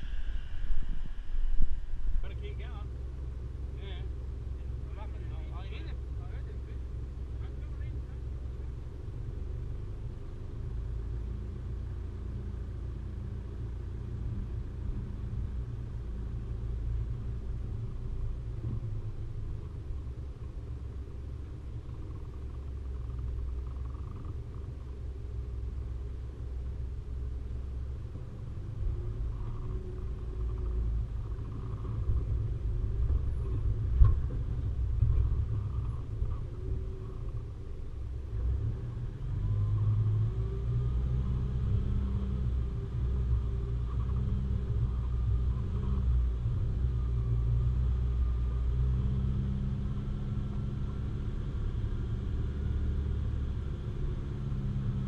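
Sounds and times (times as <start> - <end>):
vehicle driving rumble: 0.0 - 55.0.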